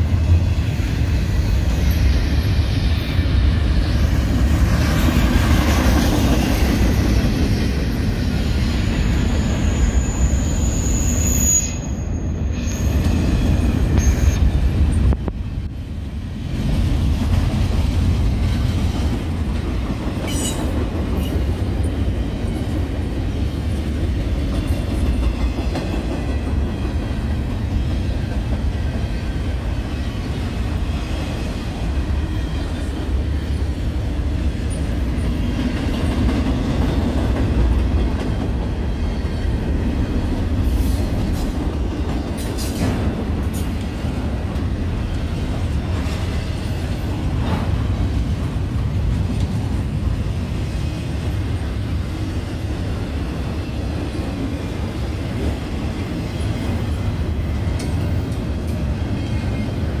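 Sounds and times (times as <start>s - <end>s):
rail cars clacking: 0.0s - 60.0s
train wheels rumbling on rail: 0.0s - 60.0s.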